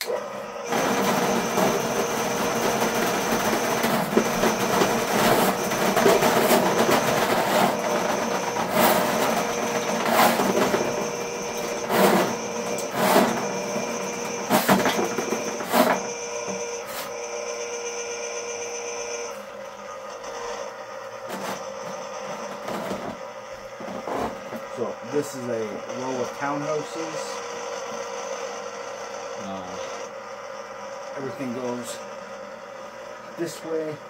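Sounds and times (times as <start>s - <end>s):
drain machine running: 0.0s - 34.0s.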